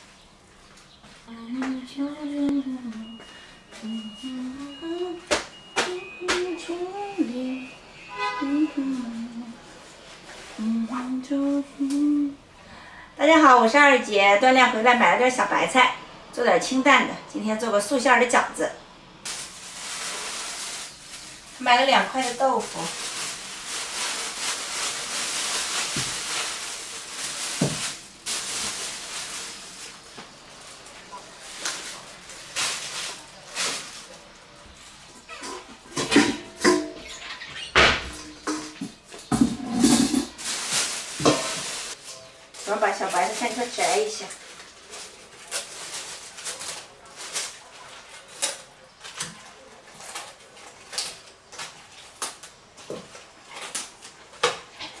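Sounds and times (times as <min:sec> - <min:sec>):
plastic bags rustling: 0:02.8 - 0:12.4, 0:19.2 - 0:37.2, 0:38.1 - 0:55.0.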